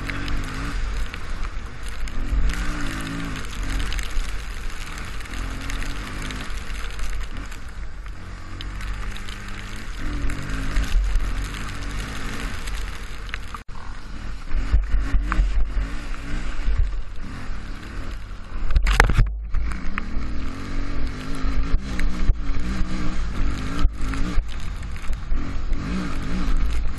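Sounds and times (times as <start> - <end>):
dirt bike engine revving: 0.0 - 18.6, 19.6 - 26.9
heavy low rumble: 0.0 - 26.9.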